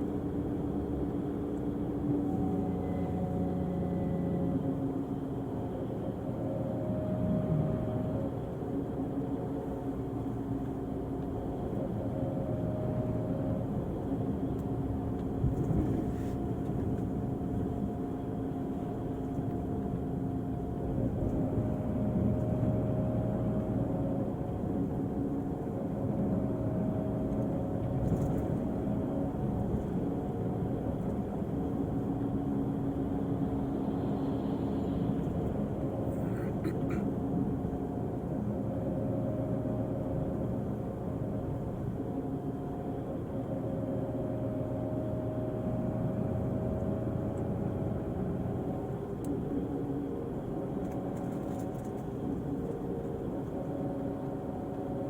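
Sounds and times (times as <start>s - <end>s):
coach engine droning: 0.0s - 55.0s.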